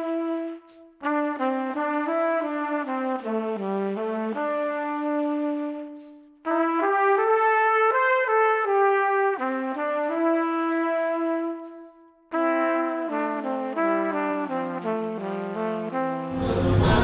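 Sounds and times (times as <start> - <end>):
brass melody: 0.0 - 17.0.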